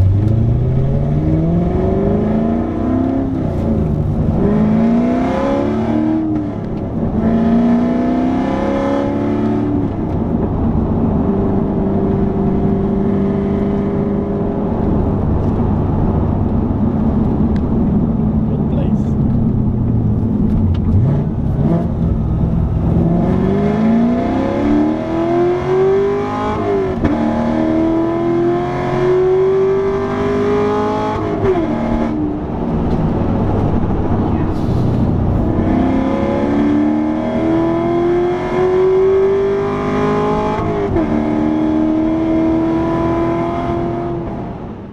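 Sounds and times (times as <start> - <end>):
car engine accelerating through gears: 0.0 - 44.9.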